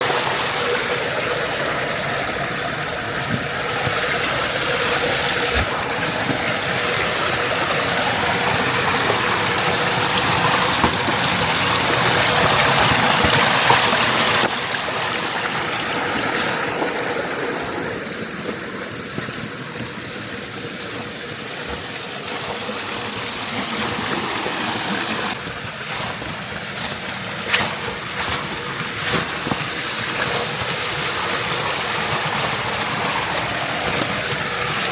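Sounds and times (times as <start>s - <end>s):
rushing stream water: 0.0s - 34.9s.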